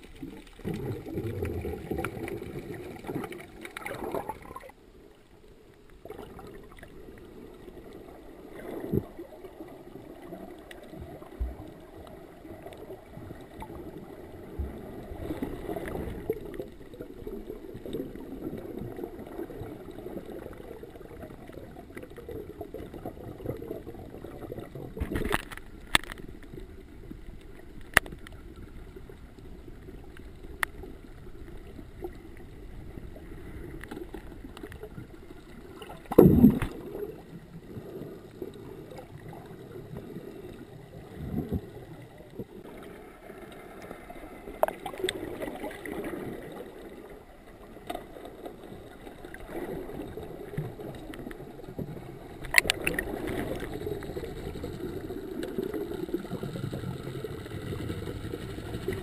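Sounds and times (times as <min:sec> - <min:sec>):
underwater rush of water: 0:00.0 - 0:59.0.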